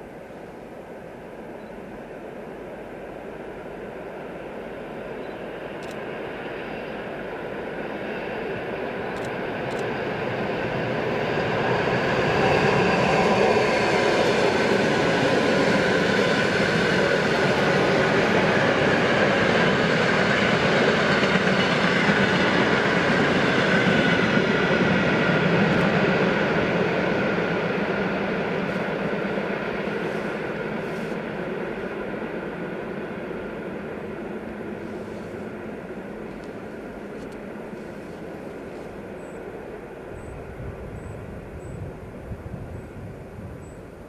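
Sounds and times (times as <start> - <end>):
electric train passing: 0.0 - 44.0.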